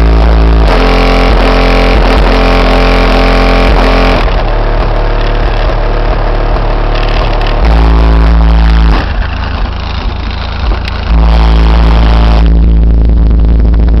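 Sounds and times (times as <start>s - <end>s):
heavy bass from subwoofers: 0.0s - 14.0s.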